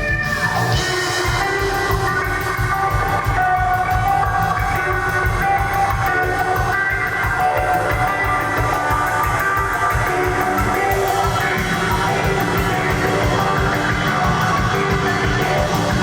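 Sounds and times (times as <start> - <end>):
bass and drum beat: 0.0 - 16.0
electric guitar melody: 0.0 - 16.0.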